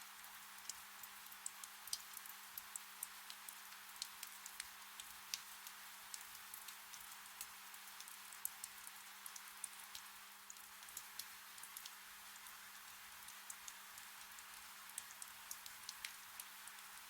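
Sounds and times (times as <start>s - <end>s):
gentle rain hiss: 0.0s - 17.0s
raindrops ticking: 0.6s - 17.0s.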